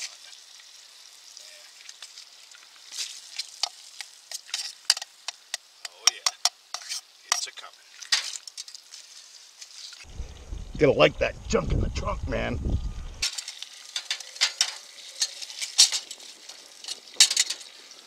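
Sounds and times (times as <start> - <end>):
food sizzling in butter: 0.0 - 10.4, 13.2 - 18.0.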